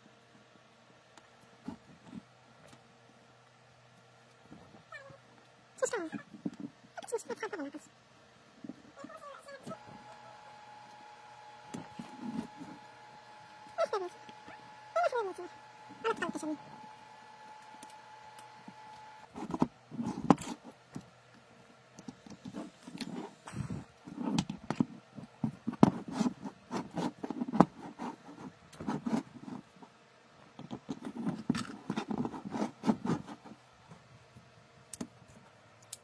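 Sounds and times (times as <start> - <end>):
faint steady whine: 0.0 - 36.0.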